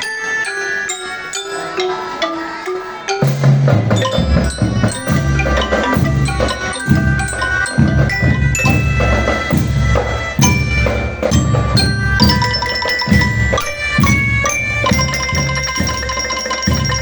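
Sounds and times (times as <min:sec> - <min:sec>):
glockenspiel bell melody: 0:00.0 - 0:17.0
drum pulse: 0:03.2 - 0:17.0.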